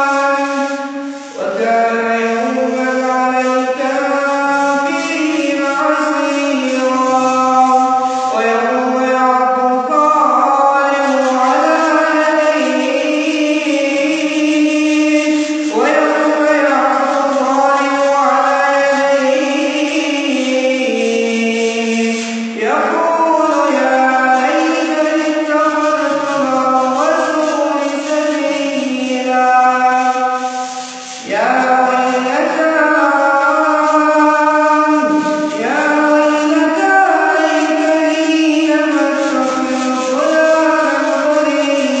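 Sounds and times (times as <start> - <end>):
man chanting melodically: 0.0 - 42.0.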